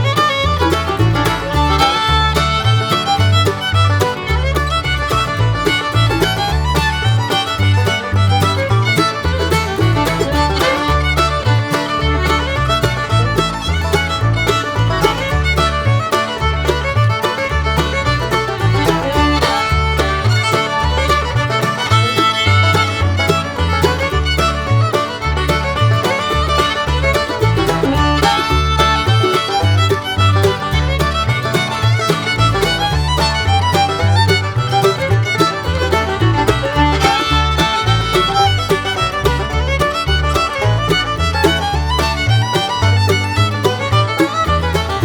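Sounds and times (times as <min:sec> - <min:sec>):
bluegrass music with fiddle: 0:00.0 - 0:45.0.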